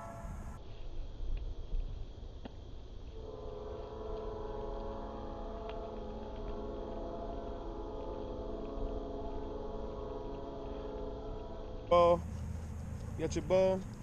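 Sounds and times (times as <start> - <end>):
low rumble: 0.0 - 14.0
steady hum: 0.0 - 14.0.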